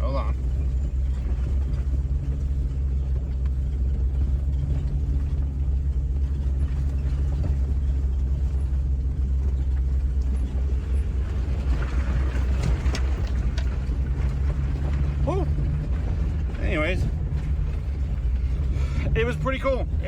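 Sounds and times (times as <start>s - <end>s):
car engine and road rumble: 0.0s - 20.0s
constant low drone: 0.0s - 20.0s.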